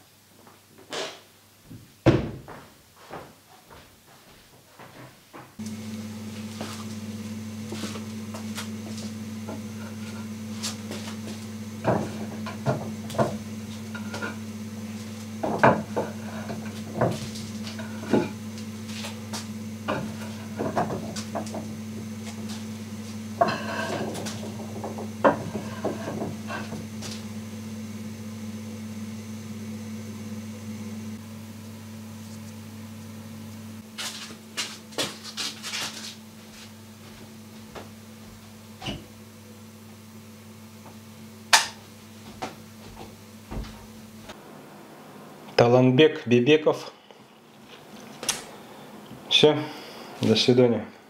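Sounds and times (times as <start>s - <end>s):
steady low hum: 5.6s - 51.0s.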